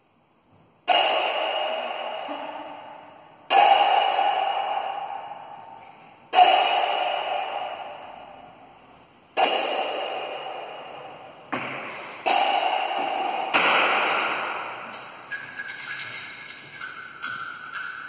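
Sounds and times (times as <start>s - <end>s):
sharp echoing percussive hits: 0.8s - 18.0s.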